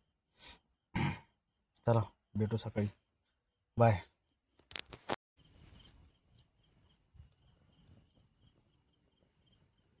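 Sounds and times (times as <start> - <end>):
crickets and insects chirring: 0.0 - 10.0.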